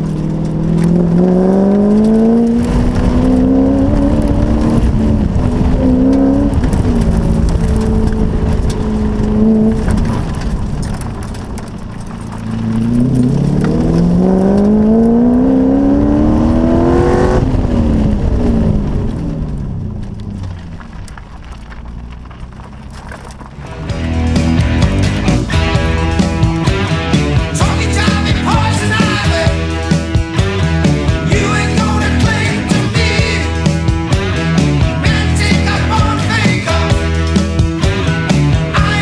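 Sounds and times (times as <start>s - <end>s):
sports car engine revving: 0.0s - 39.0s.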